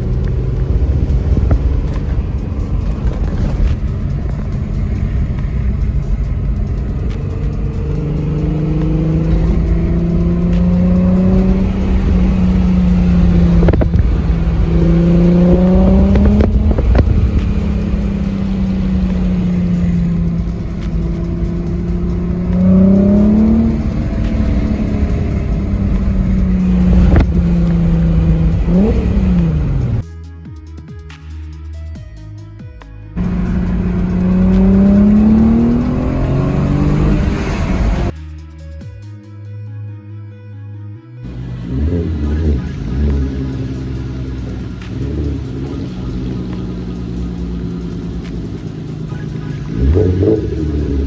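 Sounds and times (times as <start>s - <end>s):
car engine revving: 0.0s - 30.0s, 33.2s - 38.2s, 41.3s - 51.0s.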